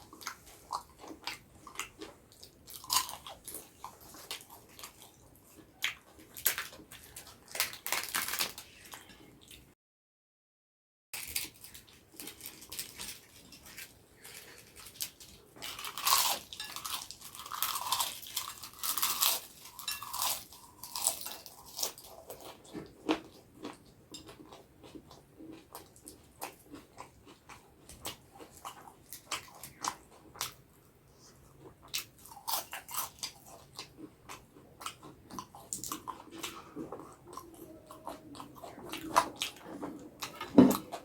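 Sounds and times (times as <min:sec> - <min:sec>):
crunching and chewing snacks: 0:00.0 - 0:09.6, 0:11.2 - 0:41.0.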